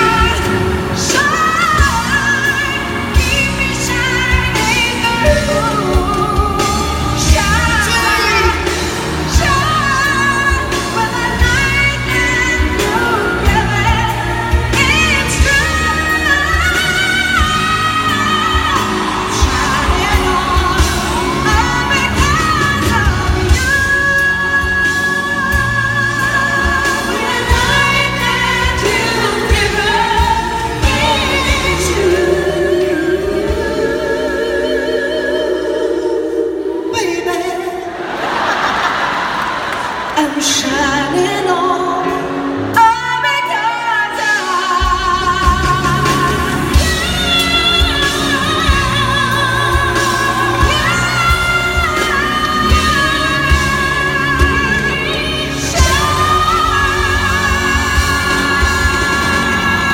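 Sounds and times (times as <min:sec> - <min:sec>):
band accompaniment with steady beat: 0:00.0 - 0:34.6, 0:37.3 - 0:59.9
person singing pop ballad: 0:00.0 - 0:38.0, 0:40.2 - 0:59.9.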